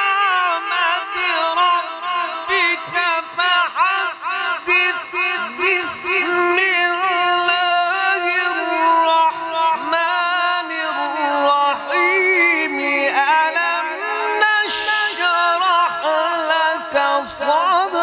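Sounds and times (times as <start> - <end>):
man reciting melodically: 0.0 - 18.0.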